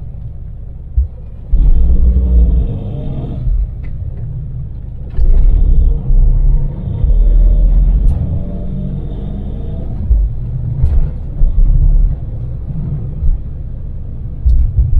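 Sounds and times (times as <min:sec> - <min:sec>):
road noise: 0:00.0 - 0:14.9
van engine rumble: 0:00.0 - 0:14.9.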